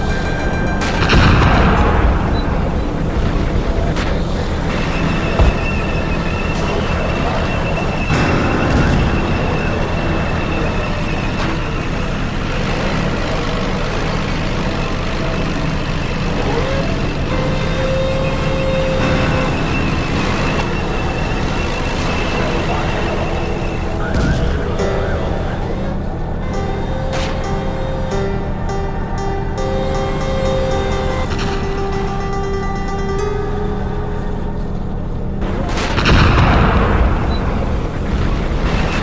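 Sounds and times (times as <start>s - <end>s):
tank engine rumbling: 0.0s - 39.0s.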